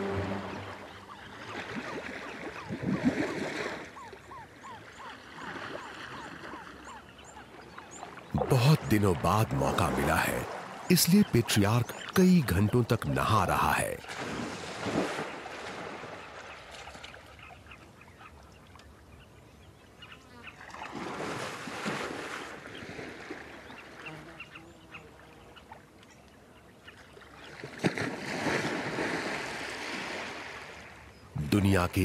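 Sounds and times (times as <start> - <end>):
water splashing and sloshing: 0.0 - 19.0, 20.6 - 24.1, 26.8 - 31.2.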